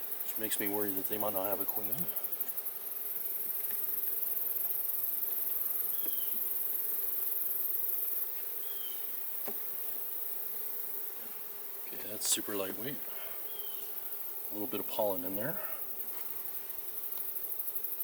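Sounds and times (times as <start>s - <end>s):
bees humming: 0.0s - 18.0s.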